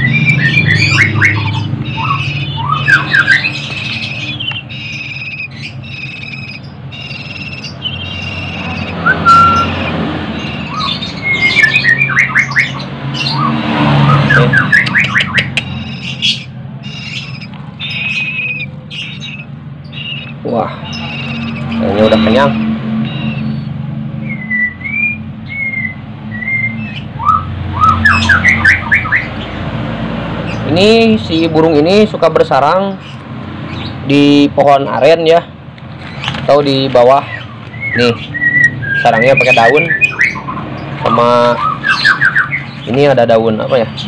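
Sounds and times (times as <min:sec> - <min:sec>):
nestlings squawking and chirping: 0:00.0 - 0:44.0.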